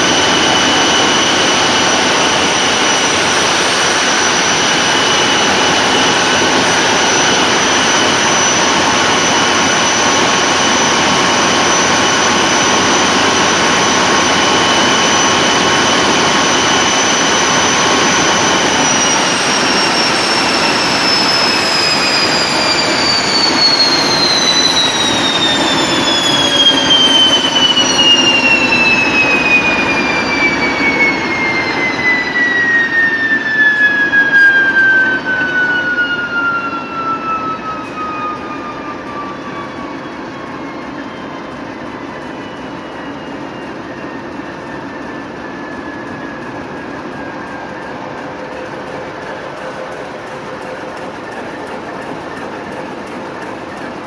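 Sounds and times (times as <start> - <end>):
turbocharger whistle falling in pitch: 0.0 - 52.2
diesel locomotive engine and train: 0.0 - 54.0.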